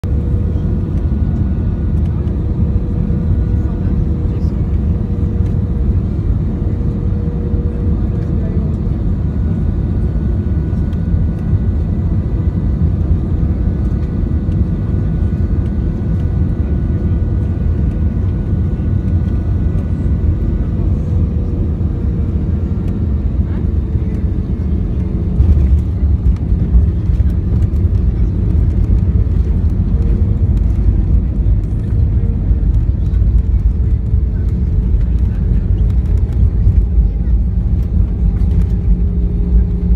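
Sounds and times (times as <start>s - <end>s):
airflow rumble in aircraft cabin: 0.0s - 39.9s
jet engine whine: 0.0s - 39.9s.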